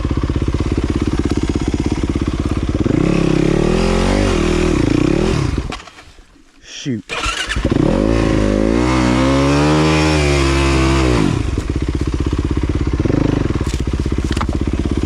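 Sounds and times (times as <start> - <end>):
dirt bike engine revving: 0.0 - 5.9, 7.1 - 15.0.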